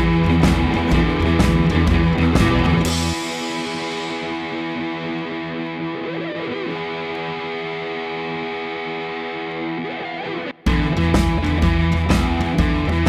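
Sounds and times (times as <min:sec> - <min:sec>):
distorted electric guitar chords: 0:00.0 - 0:13.0.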